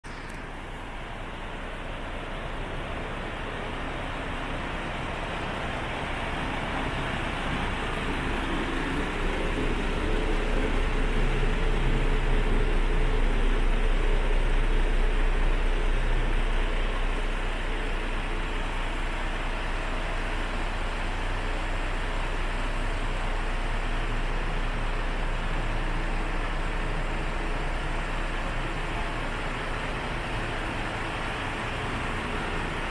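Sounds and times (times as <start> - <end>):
diesel truck engine idling: 0.0 - 32.9.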